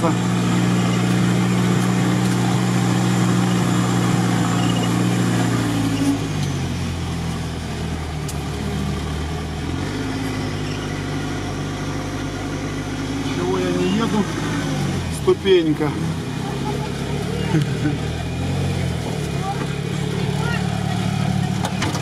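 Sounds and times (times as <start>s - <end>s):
engine running at low revs: 0.0s - 22.0s.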